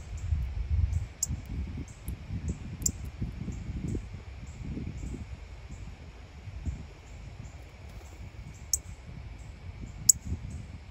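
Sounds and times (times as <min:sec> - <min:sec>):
wind gusting on microphone: 0:00.0 - 0:10.9.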